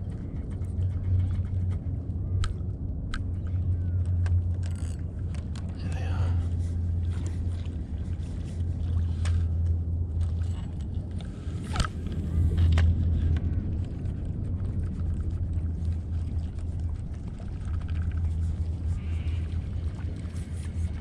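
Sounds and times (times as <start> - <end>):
kayak low rumble: 0.0 - 21.0.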